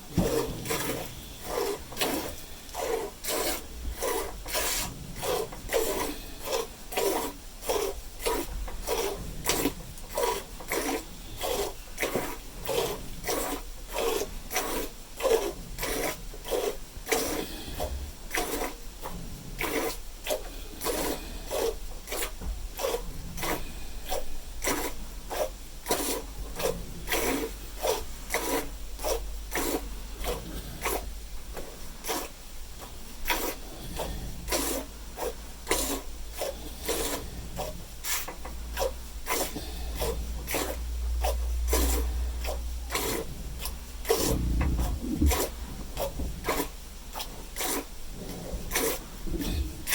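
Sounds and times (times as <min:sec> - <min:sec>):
milk squirting into a pail: 0:00.1 - 0:31.2, 0:33.2 - 0:49.9.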